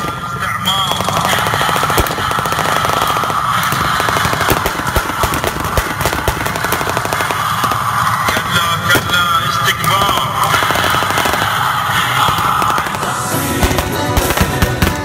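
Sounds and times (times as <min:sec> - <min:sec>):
rifles firing blank rounds: 0:00.0 - 0:15.0.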